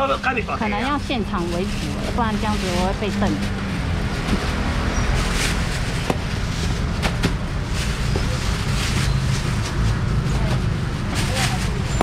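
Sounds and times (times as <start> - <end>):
outdoor background rumble and hiss: 0.0 - 12.0
plastic bags rustling: 0.8 - 12.0.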